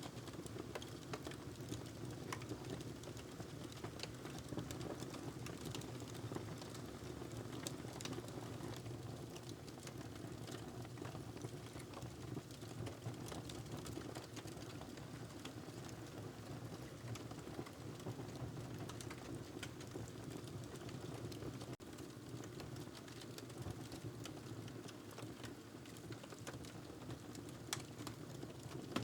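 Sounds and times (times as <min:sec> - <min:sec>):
wood fire crackling: 0:00.1 - 0:29.0.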